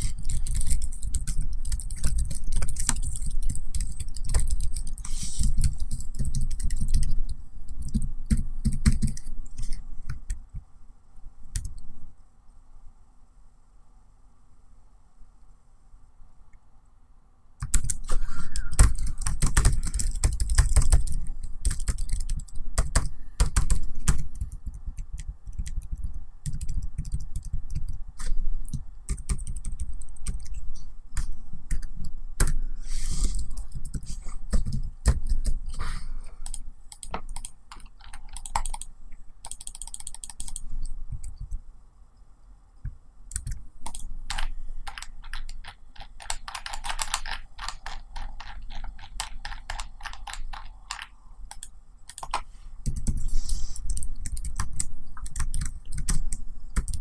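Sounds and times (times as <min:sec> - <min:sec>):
laptop keyboard typing: 0:00.0 - 0:10.4, 0:11.5 - 0:11.9, 0:17.6 - 0:35.8, 0:36.4 - 0:41.5, 0:43.3 - 0:57.0.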